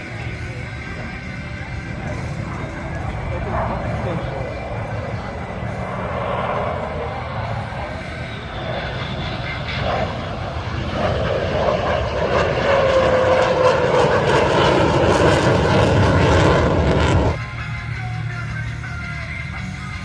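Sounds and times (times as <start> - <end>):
jet aircraft roaring past: 0.0 - 20.0.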